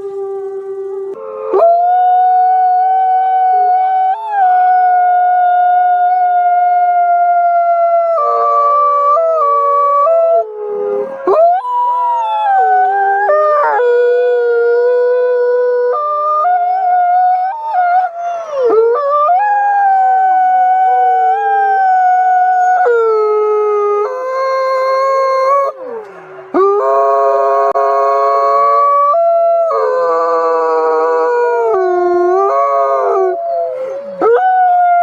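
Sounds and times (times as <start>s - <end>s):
wolves howling in chorus: 0.0s - 35.0s.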